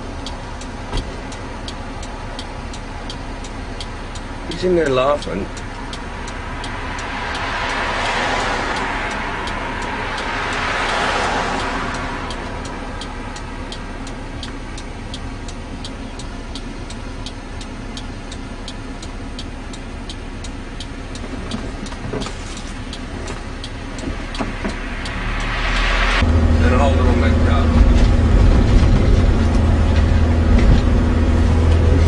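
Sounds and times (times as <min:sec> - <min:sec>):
passing vehicle rush: 0:00.0 - 0:17.2, 0:20.0 - 0:32.0
car engine idling: 0:00.0 - 0:32.0
turn signal ticking: 0:00.0 - 0:32.0.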